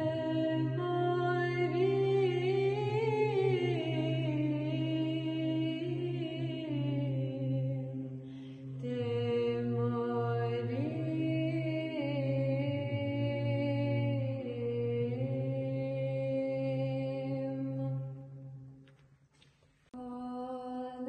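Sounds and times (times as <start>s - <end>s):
low vocal drone: 0.0s - 18.2s
woman singing chant: 0.0s - 18.2s, 20.0s - 21.0s.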